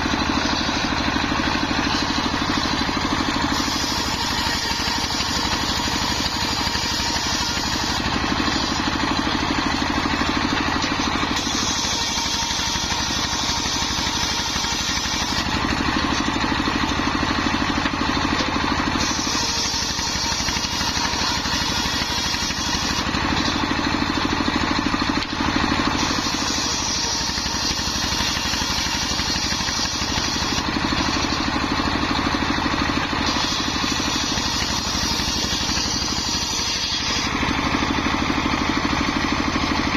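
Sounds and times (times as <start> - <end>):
saw blade cutting wood hiss: 0.0 - 16.3, 18.9 - 23.7, 25.9 - 38.1
engine-driven circular saw running: 0.0 - 39.9.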